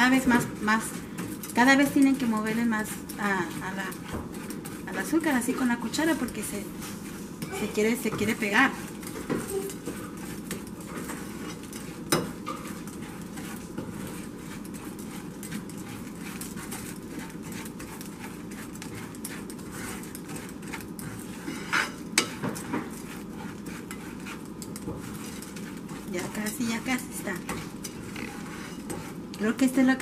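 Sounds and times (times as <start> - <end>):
metal spoon scraping frying pan: 0.0 - 30.0.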